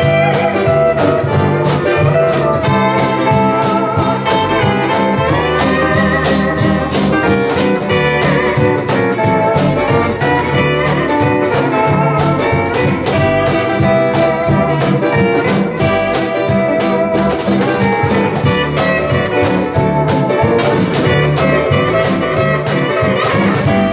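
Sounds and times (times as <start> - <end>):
bass: 0.0 - 23.9
percussion: 0.0 - 23.9
rhythm guitar: 0.0 - 23.9
steel guitar melody: 0.0 - 23.9
ukulele: 0.0 - 23.9.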